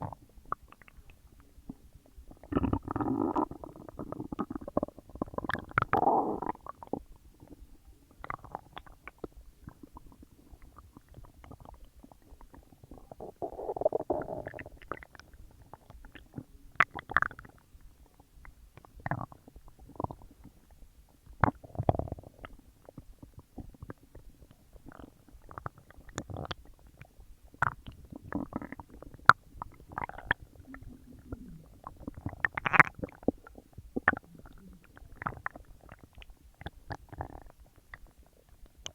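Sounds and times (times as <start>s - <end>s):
stomach gurgling and rumbling: 0.0s - 38.9s.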